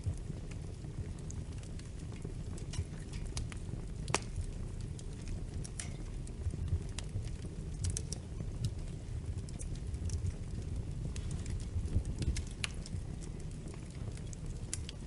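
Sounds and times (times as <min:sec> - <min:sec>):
fire crackles and pops: 0:00.0 - 0:15.0
fire flames rumbling: 0:00.0 - 0:15.0.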